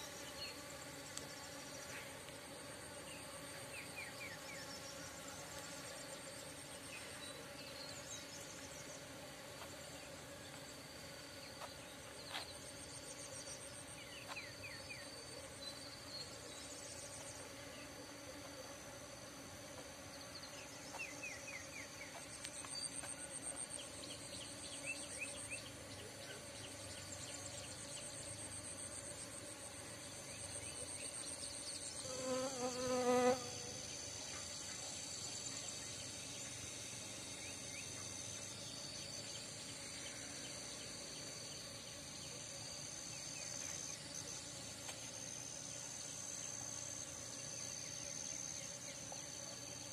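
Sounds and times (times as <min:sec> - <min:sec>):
insect trills: 0:00.0 - 0:49.9
insects buzzing: 0:00.0 - 0:49.9
loud pitched insect call: 0:00.0 - 0:49.9.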